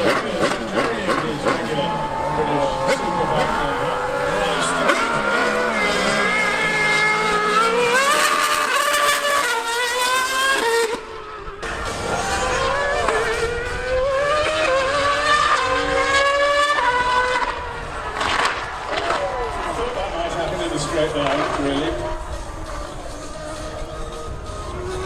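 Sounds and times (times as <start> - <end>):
racing car engine revving: 0.0 - 25.0
superbike engine revving: 0.0 - 25.0.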